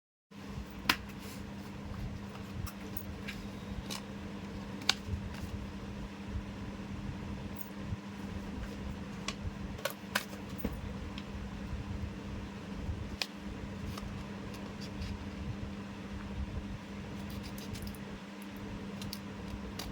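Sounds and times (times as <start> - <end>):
low electrical fan hum: 0.3 - 19.9.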